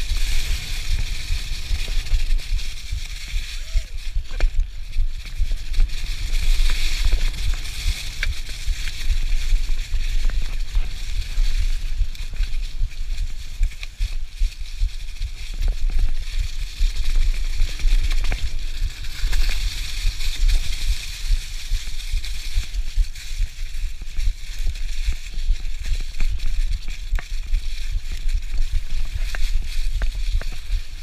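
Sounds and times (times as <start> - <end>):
bike tyres crackling through leaves: 0.0 - 31.0
wind rumbling on microphone: 0.0 - 31.0.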